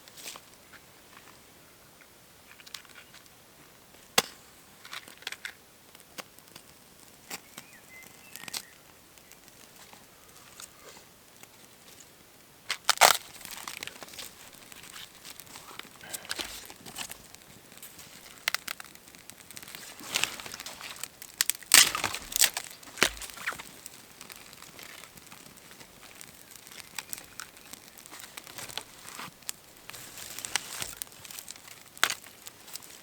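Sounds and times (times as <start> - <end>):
twigs snapping and crackling: 4.0 - 33.0
rustling: 6.4 - 33.0.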